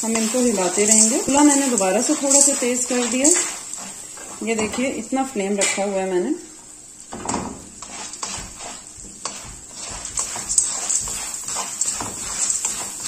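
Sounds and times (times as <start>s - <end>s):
spatula scraping kernels in pan: 0.0s - 5.8s, 7.6s - 13.0s
faint sizzle: 0.0s - 13.0s.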